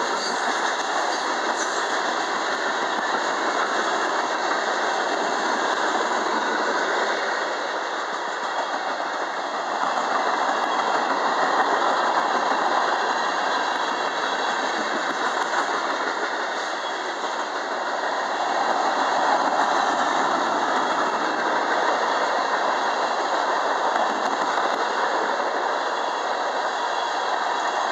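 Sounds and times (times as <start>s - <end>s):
steel wheels rumbling on rails: 0.0s - 27.9s.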